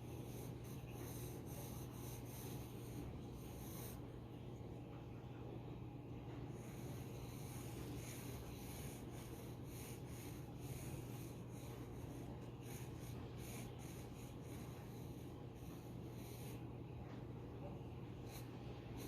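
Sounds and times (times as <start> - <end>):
pencil scratching on paper: 0.0 - 4.2, 6.4 - 16.7, 18.1 - 19.0
steady low hum: 0.0 - 19.0.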